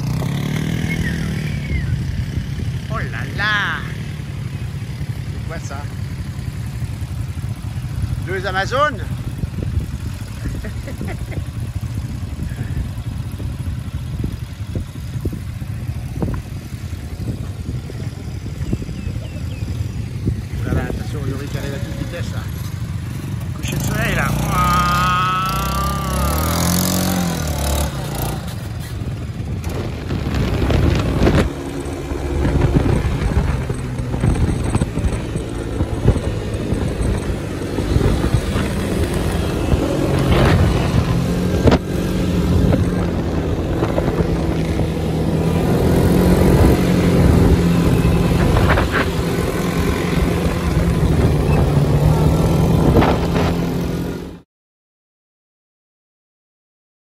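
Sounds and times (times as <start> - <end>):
quad bike engines running: 0.0 - 54.4.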